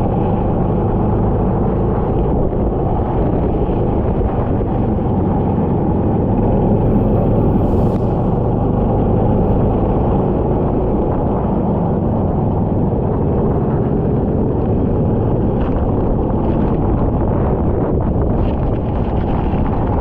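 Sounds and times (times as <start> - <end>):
kart engine running: 0.0 - 20.0
wind rushing over microphone: 0.0 - 20.0.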